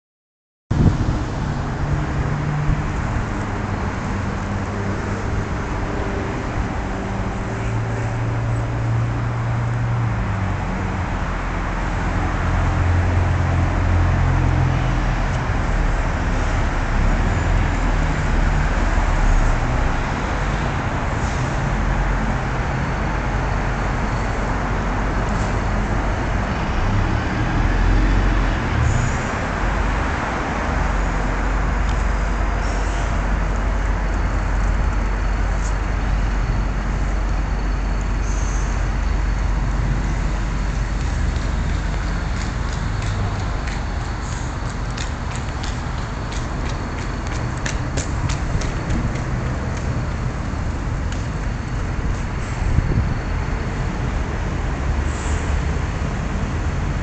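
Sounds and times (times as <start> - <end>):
road traffic rumble: 0.7 - 57.0.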